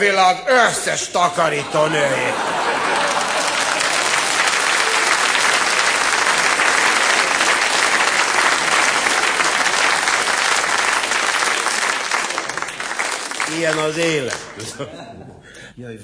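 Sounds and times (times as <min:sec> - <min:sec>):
audience applauding: 0:02.0 - 0:14.8.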